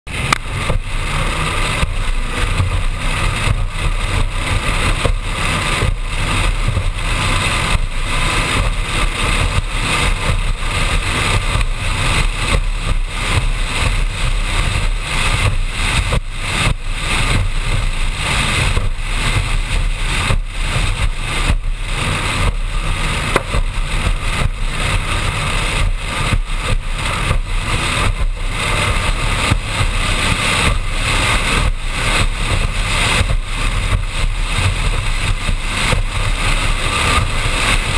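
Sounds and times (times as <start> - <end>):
powerboat engine: 0.0 - 37.9
rush of wind and water: 0.1 - 37.9.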